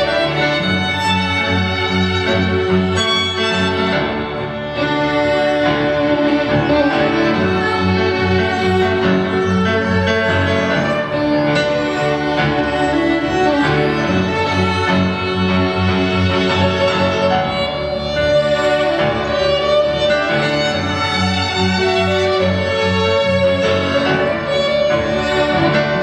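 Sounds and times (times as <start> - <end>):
string ensemble playing: 0.0 - 26.0.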